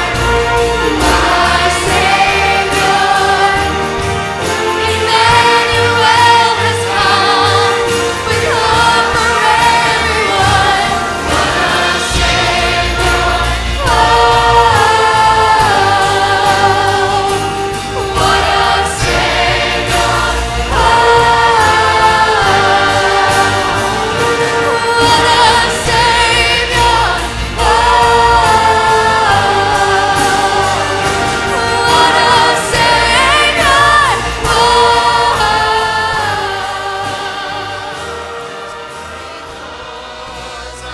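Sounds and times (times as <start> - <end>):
choir singing christmas music: 0.0 - 40.9
deep bass: 0.0 - 40.9
instrumental accompaniment: 0.0 - 40.9.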